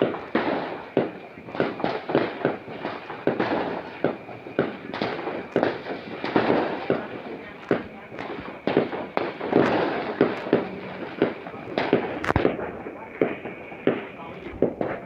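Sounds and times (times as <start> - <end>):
firecrackers crackling: 0.0 - 15.0
firework bangs: 0.0 - 15.0.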